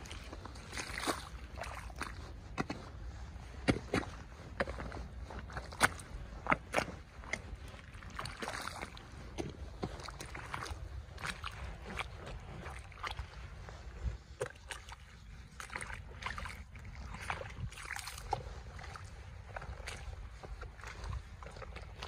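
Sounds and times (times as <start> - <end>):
boots squelching in mud: 0.0 - 22.0.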